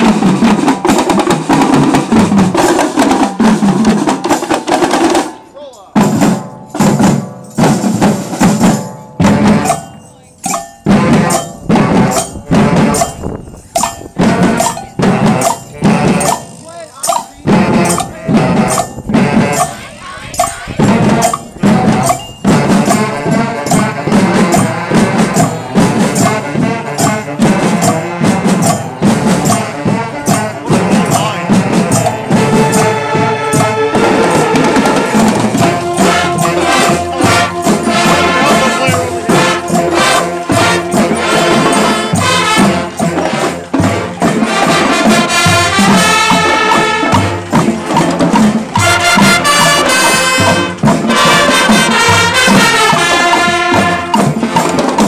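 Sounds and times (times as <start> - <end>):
drum strokes: 0.0 - 55.0
school band playing: 0.0 - 55.0.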